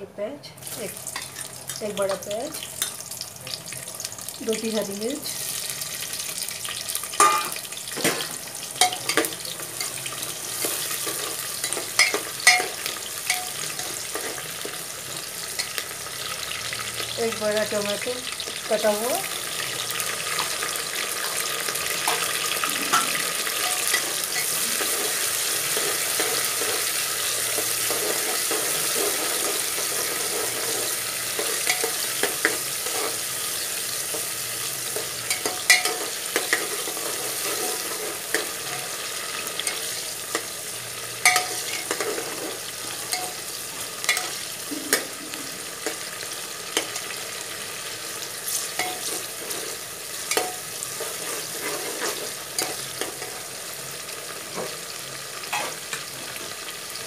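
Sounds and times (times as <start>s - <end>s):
vegetables sizzling in oil: 0.2s - 57.0s.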